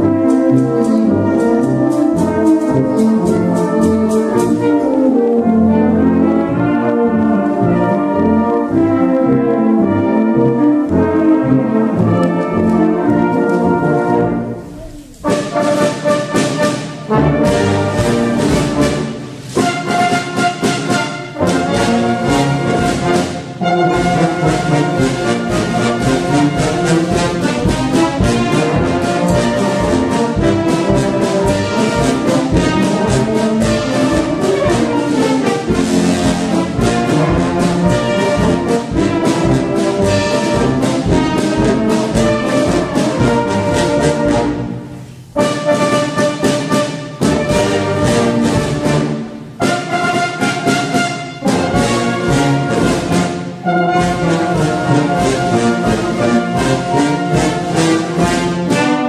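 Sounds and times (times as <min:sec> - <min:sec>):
instrumental music: 0:00.0 - 0:59.0.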